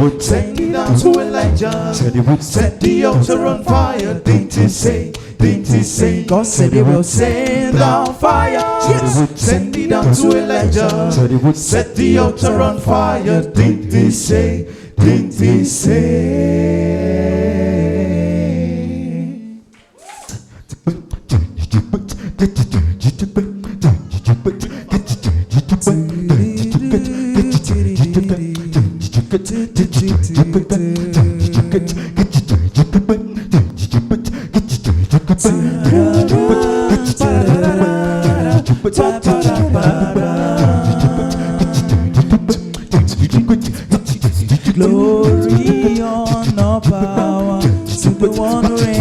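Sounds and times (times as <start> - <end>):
beatboxed vocal percussion: 0.0 - 15.9, 19.8 - 49.0
voices singing in harmony: 0.0 - 21.0, 22.0 - 49.0.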